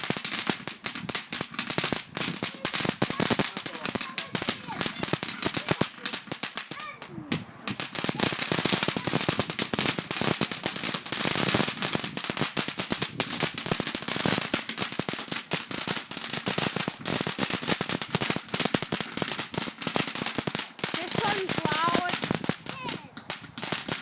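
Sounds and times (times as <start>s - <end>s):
firework crackling bangs: 0.0s - 24.0s.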